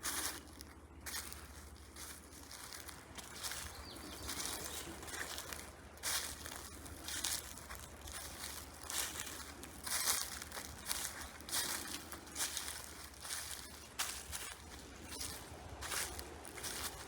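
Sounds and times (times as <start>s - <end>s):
footsteps on dry leaves: 0.0s - 17.0s.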